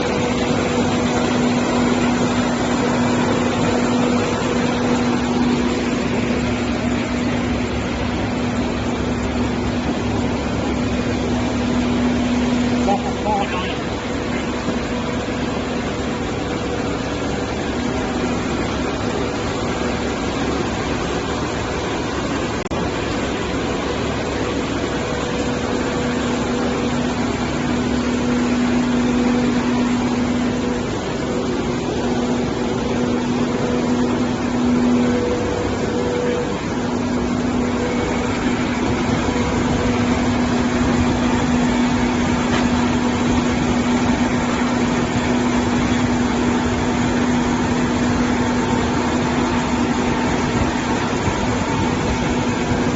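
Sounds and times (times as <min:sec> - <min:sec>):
washing machine motor hum: 0:00.0 - 0:52.9.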